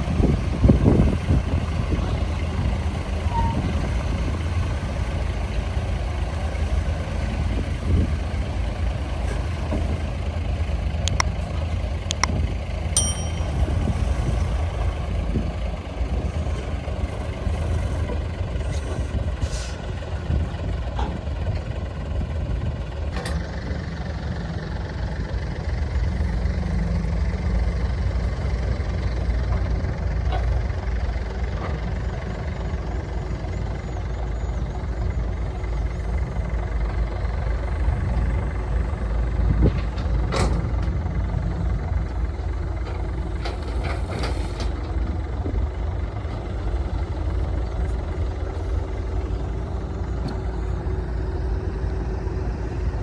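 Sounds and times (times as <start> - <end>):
heavy diesel machinery droning: 0.0 - 53.0.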